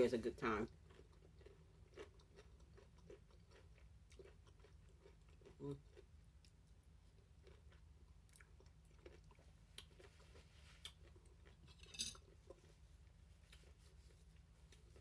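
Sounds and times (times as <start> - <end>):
person chewing: 0.7 - 15.0.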